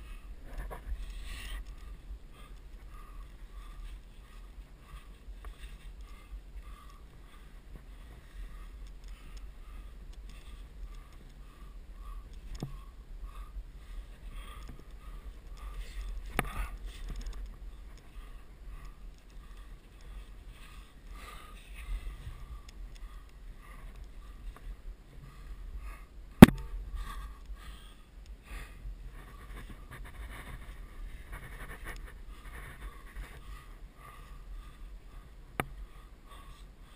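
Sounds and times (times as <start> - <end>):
wind rumbling on microphone: 0.0 - 36.9.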